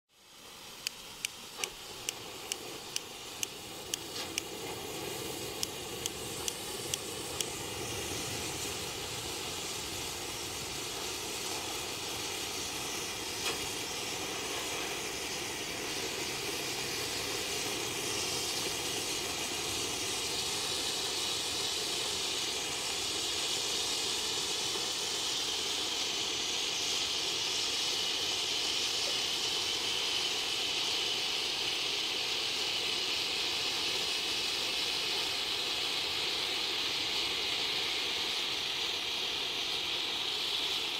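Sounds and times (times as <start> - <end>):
fireworks burning with rushing hiss: 0.1 - 40.9.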